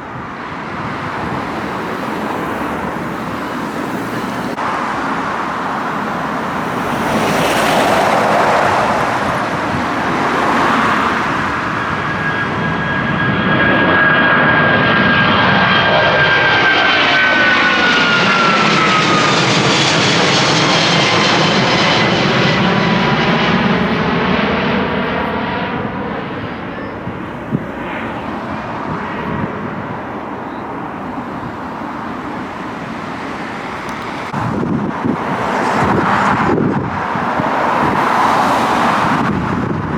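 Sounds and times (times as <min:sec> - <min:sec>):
jet airliner roaring overhead: 0:00.0 - 0:39.9
jet engine whine: 0:00.0 - 0:39.9.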